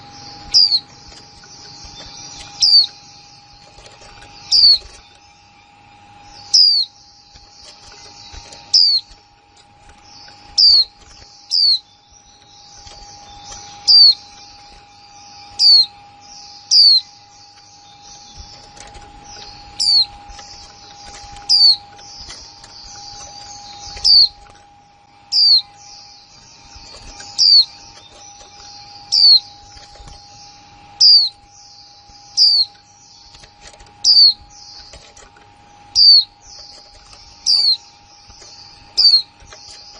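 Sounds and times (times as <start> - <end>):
faint steady hum: 0.0 - 39.9
soft bird twittering: 0.0 - 39.9.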